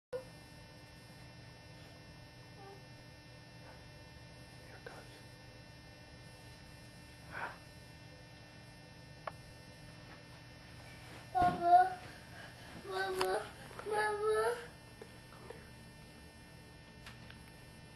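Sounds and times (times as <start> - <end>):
low electrical hum: 0.2 - 17.9.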